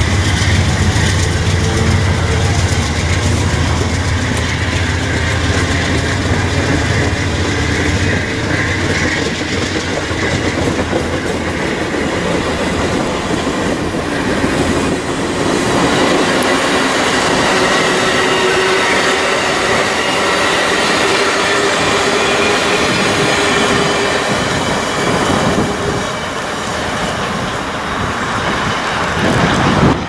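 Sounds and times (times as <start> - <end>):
passenger cars rolling on rails: 0.0 - 30.0.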